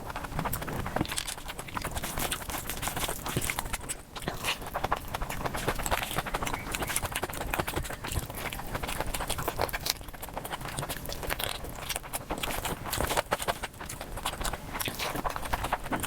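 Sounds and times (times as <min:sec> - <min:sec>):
fast chewing and crunching: 0:00.0 - 0:16.0.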